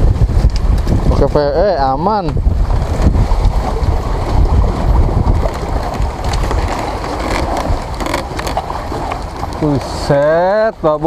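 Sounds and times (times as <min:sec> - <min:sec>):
seawater sloshing around poles: 0:00.0 - 0:11.0
wind buffeting microphone: 0:00.0 - 0:11.0.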